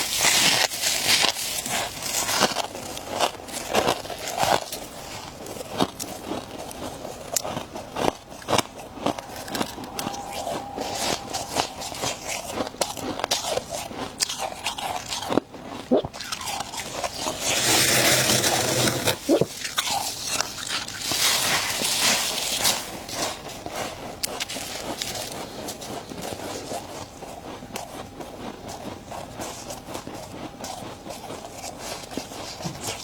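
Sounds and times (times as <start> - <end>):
person chewing ice: 0.0 - 33.0.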